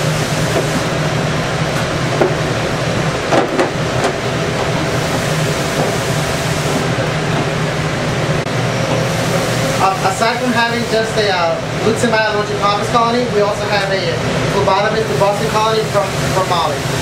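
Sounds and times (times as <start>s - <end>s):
air conditioning hum: 0.0s - 17.0s.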